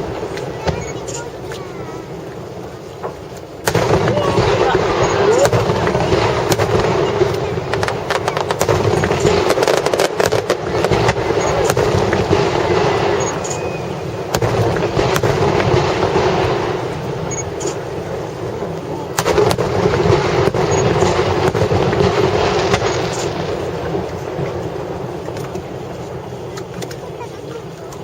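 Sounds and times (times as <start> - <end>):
fireworks bangs: 0.0 - 28.0
rumble of echoing blasts: 0.0 - 28.0.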